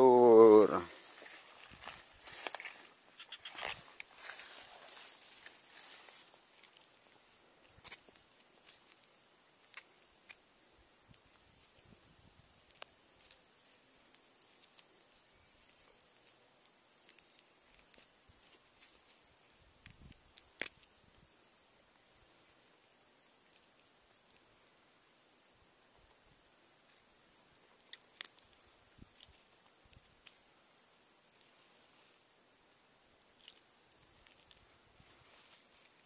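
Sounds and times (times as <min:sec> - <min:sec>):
grass rustling: 0:00.0 - 0:36.0
insects chirping: 0:00.0 - 0:36.0.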